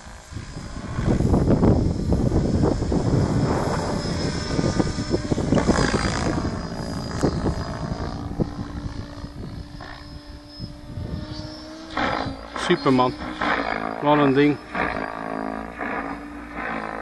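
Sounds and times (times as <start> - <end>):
low microphone rumble: 0.0 - 16.7
rc helicopter rotor whine: 0.0 - 17.0.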